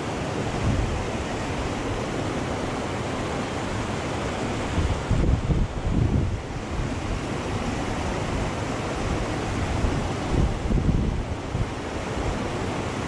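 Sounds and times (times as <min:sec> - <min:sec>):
creek rushing over rocks: 0:00.0 - 0:13.0
wind on microphone: 0:00.2 - 0:02.7, 0:04.2 - 0:13.0.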